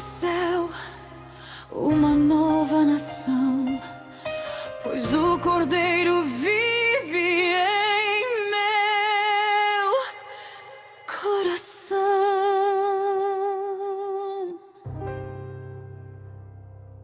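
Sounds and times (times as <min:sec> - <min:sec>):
person singing with vibrato: 0:00.0 - 0:14.9.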